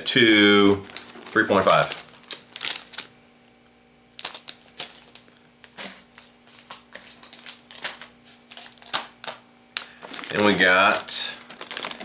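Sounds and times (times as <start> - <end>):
plastic packs crinkling: 0.6 - 3.2, 4.1 - 12.0.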